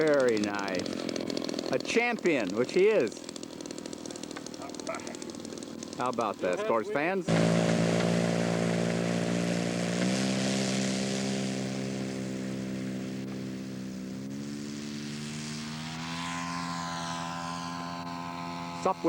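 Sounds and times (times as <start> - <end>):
model airplane propeller engine: 0.0 - 19.0.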